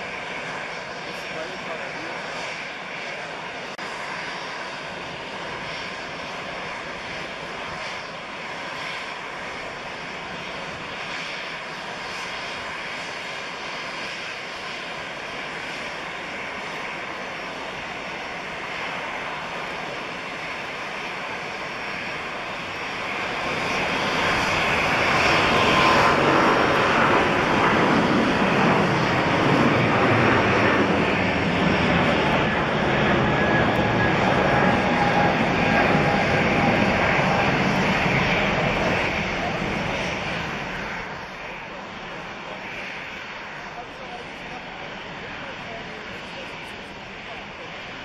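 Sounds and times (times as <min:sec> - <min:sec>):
jet engines roaring at takeoff: 0:00.0 - 0:48.0.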